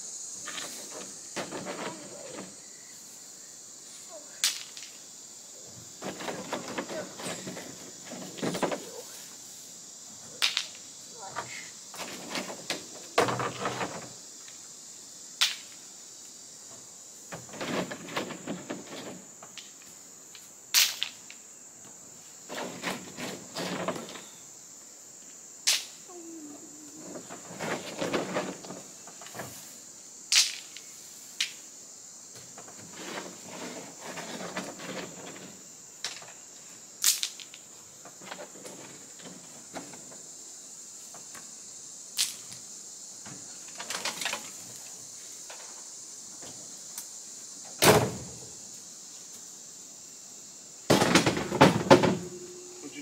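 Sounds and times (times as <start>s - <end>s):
high insect drone: 0.0s - 53.0s.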